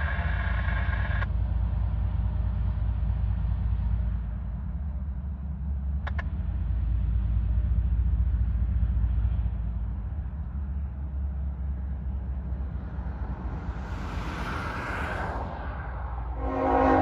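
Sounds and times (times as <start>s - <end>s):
diesel locomotives rumbling past: 0.0s - 17.0s.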